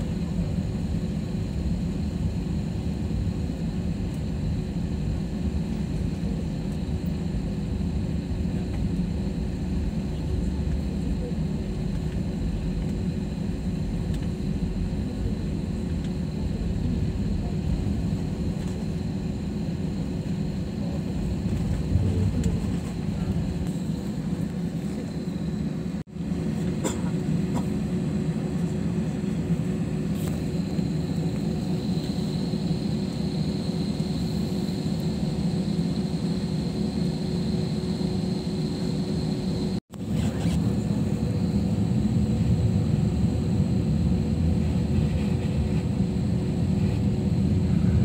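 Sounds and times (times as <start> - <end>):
faint engine whine: 0.0 - 48.0
jet airliner cabin rumble: 0.0 - 48.0.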